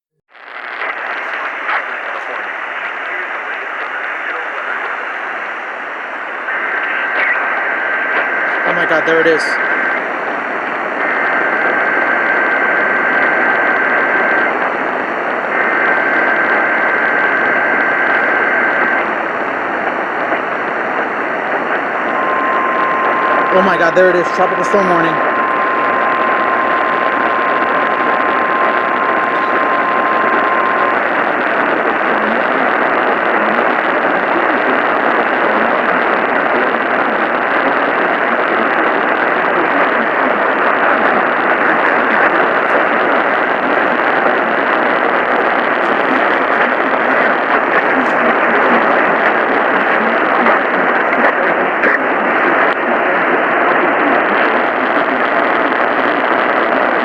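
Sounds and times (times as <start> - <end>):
radio static hiss: 0.3 - 57.0.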